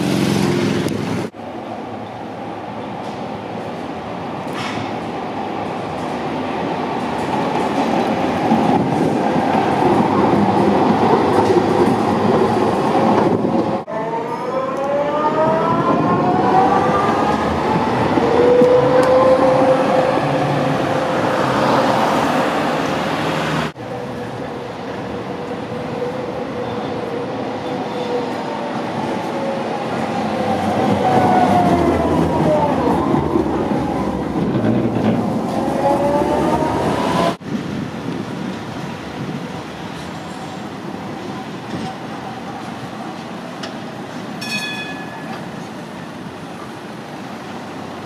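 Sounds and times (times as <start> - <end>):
tram wheels rumbling on rails: 0.0 - 13.9, 14.6 - 48.0.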